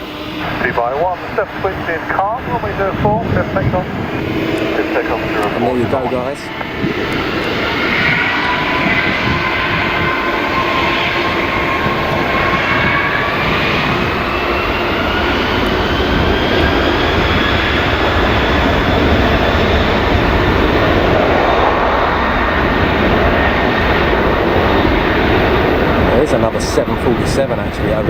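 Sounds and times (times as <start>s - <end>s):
jet engines at takeoff power: 0.0s - 28.0s.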